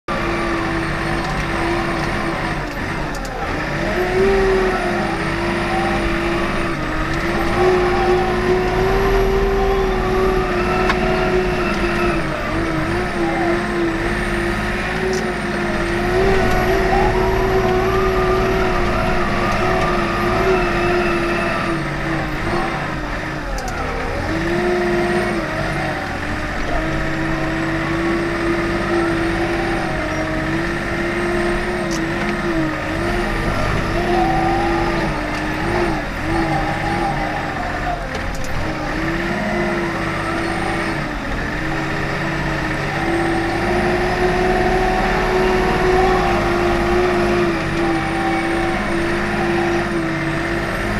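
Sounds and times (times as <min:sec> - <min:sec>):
diesel engine running under load: 0:00.1 - 0:50.9.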